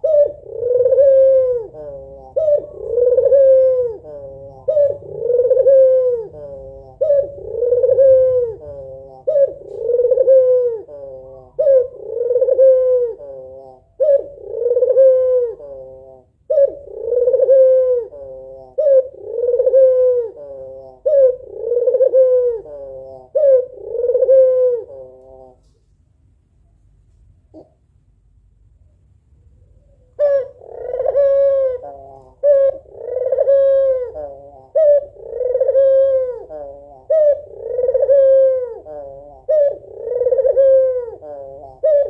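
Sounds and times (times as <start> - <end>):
dove cooing: 0.0 - 25.8, 27.5 - 27.8, 29.6 - 42.0.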